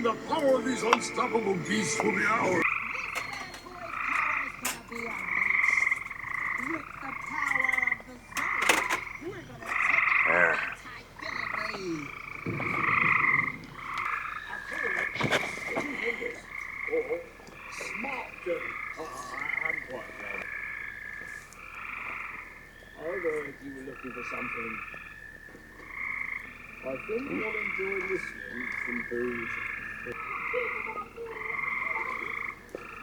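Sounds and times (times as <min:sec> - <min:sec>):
frogs calling: 0:00.0 - 0:33.0.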